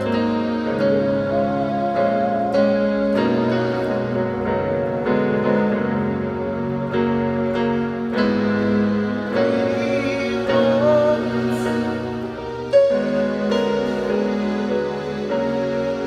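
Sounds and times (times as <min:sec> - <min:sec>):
keyboard playing slow chords: 0:00.0 - 0:16.0.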